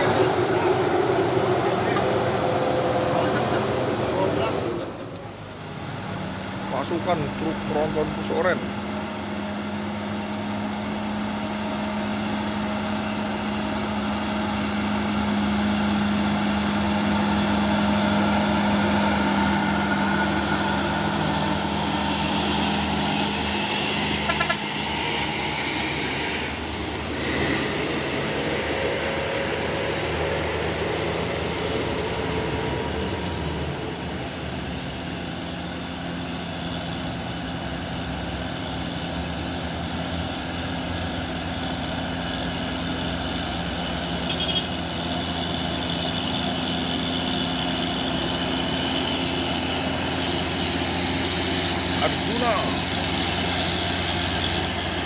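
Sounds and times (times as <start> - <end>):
truck diesel engines running: 0.0 - 55.0.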